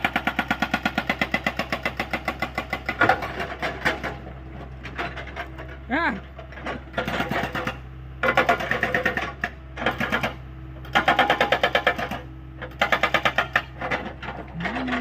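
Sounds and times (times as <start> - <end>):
hydraulic rock breaker hammering: 0.0 - 4.2, 6.5 - 15.0
excavator engine hum: 0.0 - 15.0.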